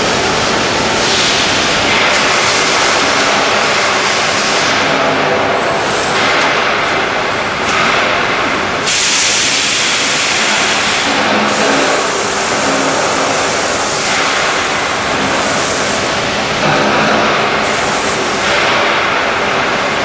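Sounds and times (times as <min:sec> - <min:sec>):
industrial machinery with hiss: 0:00.0 - 0:20.0.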